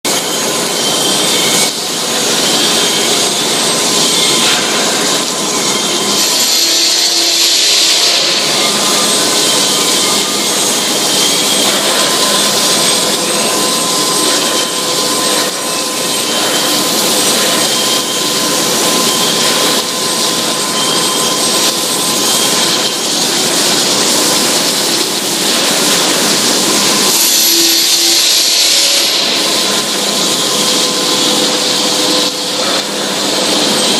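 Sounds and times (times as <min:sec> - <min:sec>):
industrial machine hiss: 0:00.1 - 0:33.9.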